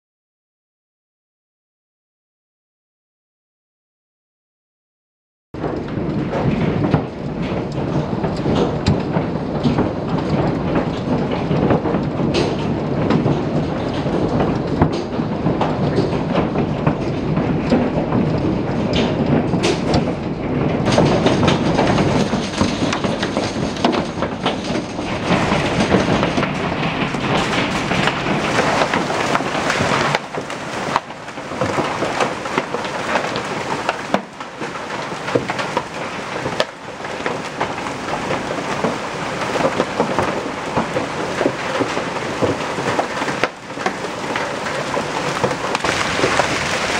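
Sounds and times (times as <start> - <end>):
heavy hail clattering: 5.6 - 46.9.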